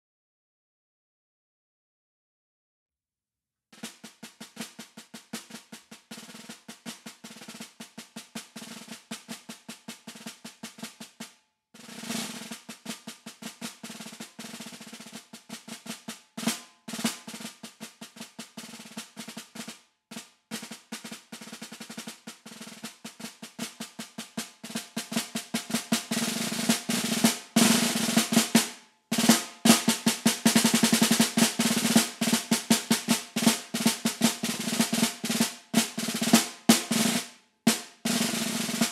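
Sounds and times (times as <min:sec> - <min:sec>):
snare drum rolls: 0:03.8 - 0:38.9.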